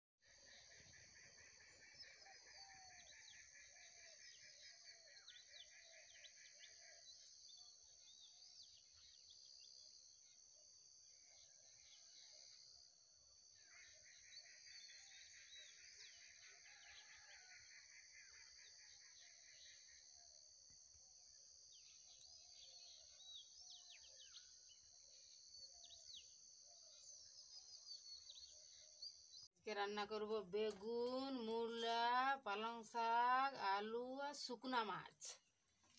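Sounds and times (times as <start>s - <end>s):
small birds chirping: 0.3s - 10.6s, 11.2s - 35.9s.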